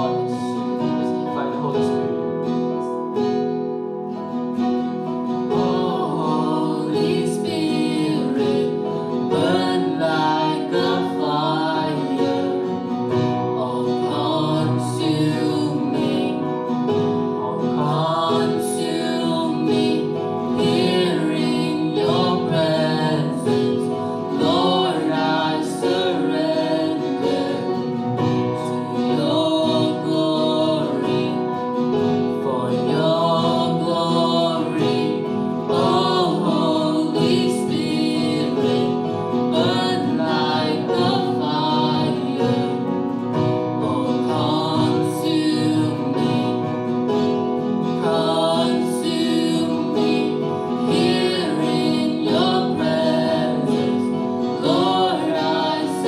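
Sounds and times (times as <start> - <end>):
acoustic guitar: 0.0 - 56.0
keyboard: 0.0 - 56.0
man and woman singing: 5.5 - 47.0, 47.8 - 56.0.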